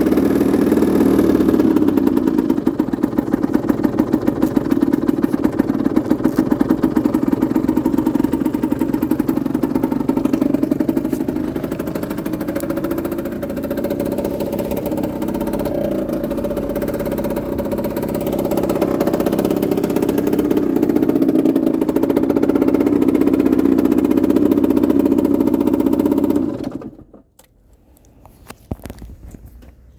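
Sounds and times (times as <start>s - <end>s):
two-stroke engine running: 0.0s - 27.3s.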